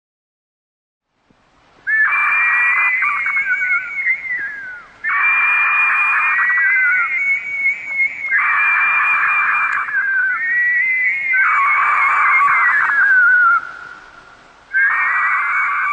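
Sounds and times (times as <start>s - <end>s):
bird of prey screeching: 1.9s - 14.1s, 14.7s - 15.9s.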